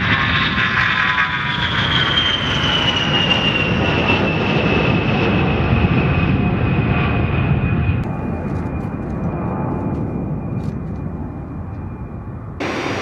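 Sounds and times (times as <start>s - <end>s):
jet engine rumble with whine: 0.0s - 13.0s.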